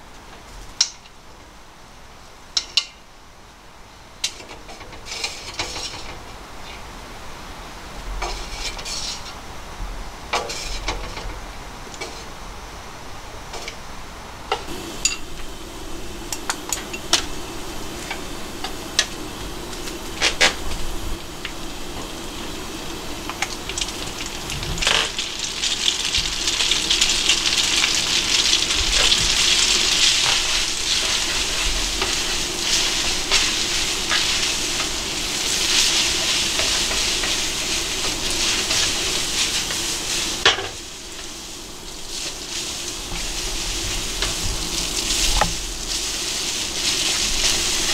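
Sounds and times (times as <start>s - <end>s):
spaghetti sizzling in a pan: 4.1s - 9.7s, 10.3s - 12.5s, 14.6s - 47.9s.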